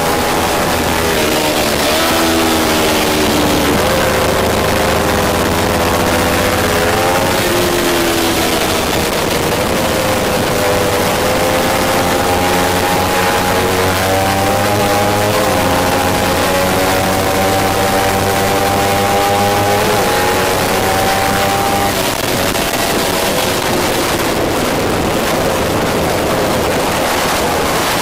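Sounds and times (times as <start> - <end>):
motorcycle engine revving: 0.0 - 28.0
wind rushing: 0.0 - 28.0.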